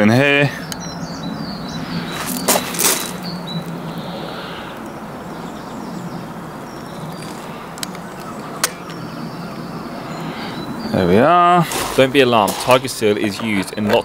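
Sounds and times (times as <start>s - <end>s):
steady low hum: 0.0s - 13.2s
faint birds chirping: 0.0s - 14.0s.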